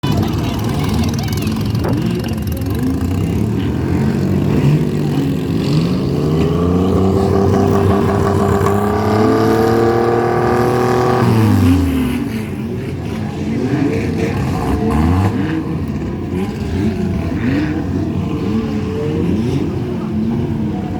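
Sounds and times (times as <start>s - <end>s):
car engine revving: 0.0s - 20.9s
car engines running: 0.0s - 20.9s.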